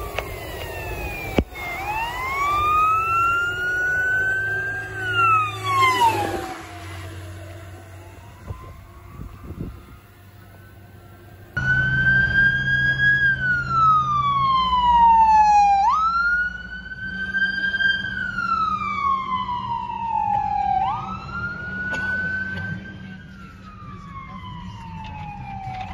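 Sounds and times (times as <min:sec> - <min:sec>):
emergency siren wailing: 0:00.0 - 0:25.9.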